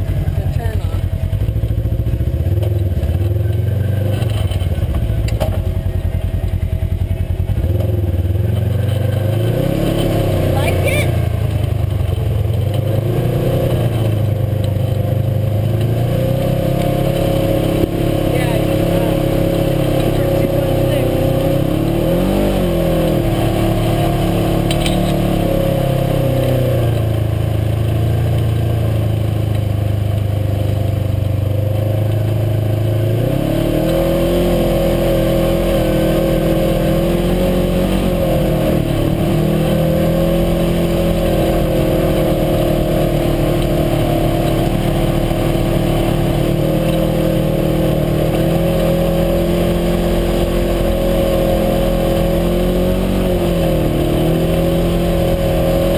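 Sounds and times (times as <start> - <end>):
utility vehicle engine revving: 0.0 - 55.9.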